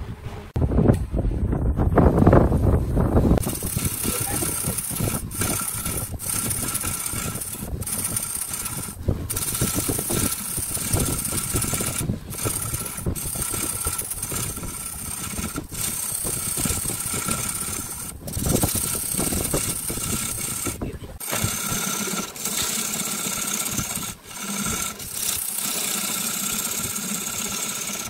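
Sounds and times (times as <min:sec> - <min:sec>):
chisel scraping spinning wood: 0:03.3 - 0:28.0
wood lathe whining: 0:03.4 - 0:28.0.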